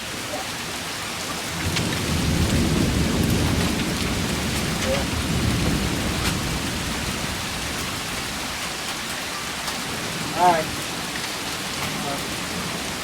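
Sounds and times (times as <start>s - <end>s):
hail and rain pouring: 0.0s - 13.0s
hailstones ticking: 0.0s - 13.0s
thunder rumbling: 1.5s - 13.0s.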